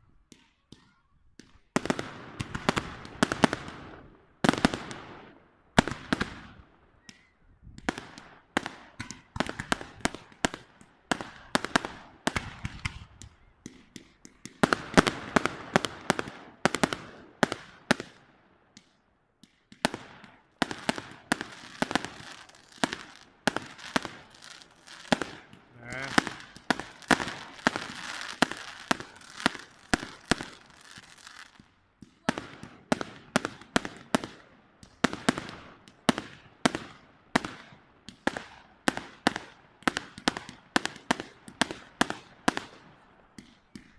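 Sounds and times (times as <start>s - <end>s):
fireworks bangs and crackle: 0.2s - 43.9s.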